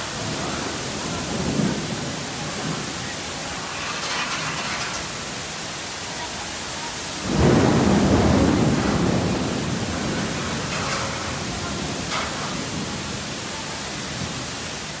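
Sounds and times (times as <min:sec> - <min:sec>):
heavy rain hissing: 0:00.0 - 0:15.0
thunder rumbling: 0:00.0 - 0:15.0.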